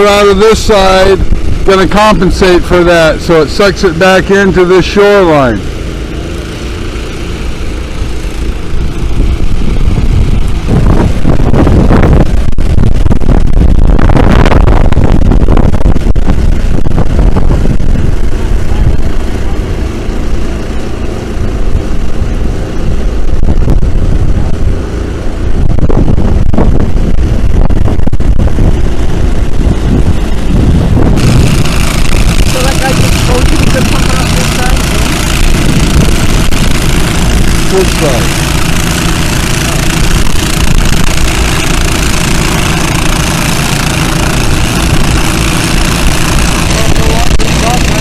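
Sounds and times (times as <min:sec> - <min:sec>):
engine-driven water pumps running: 0:00.0 - 0:48.0.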